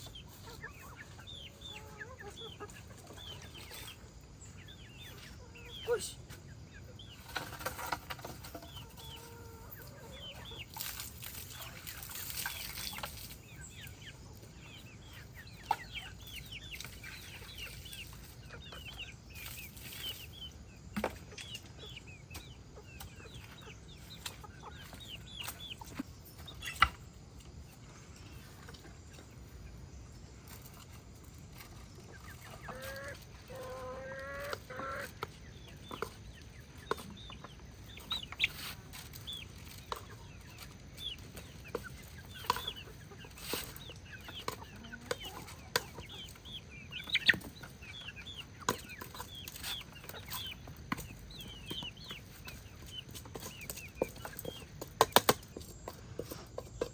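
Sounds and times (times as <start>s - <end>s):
chickens clucking: 0.0s - 56.9s
high chick peeps: 0.0s - 56.9s.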